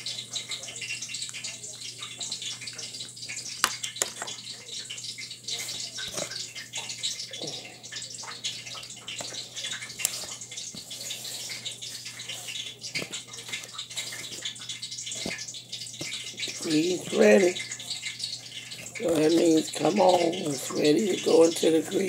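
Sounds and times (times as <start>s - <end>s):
frying grease crackling and popping: 0.0s - 22.0s.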